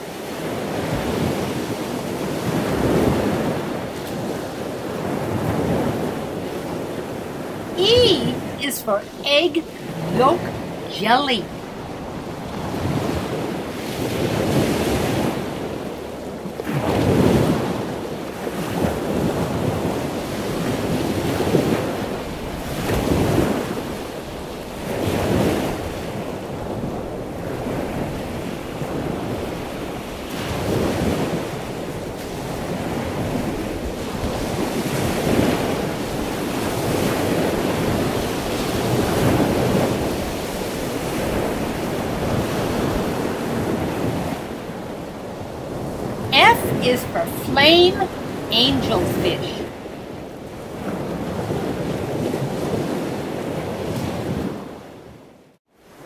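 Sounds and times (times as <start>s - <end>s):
ocean waves washing: 0.0s - 56.0s.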